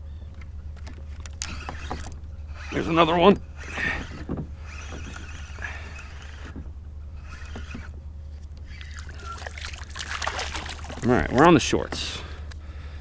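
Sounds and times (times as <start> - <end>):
low steady rumble: 0.0 - 13.0
fishing reel clicks and rustles: 0.4 - 12.6.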